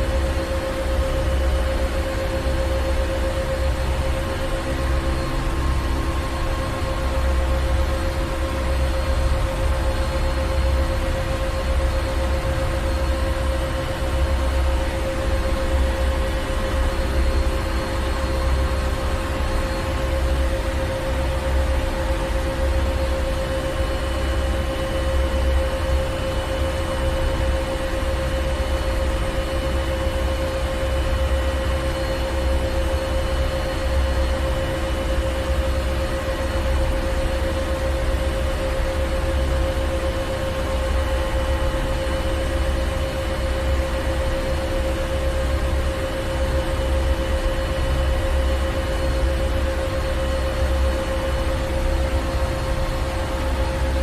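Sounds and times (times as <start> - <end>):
constant machinery hum: 0.0 - 54.0.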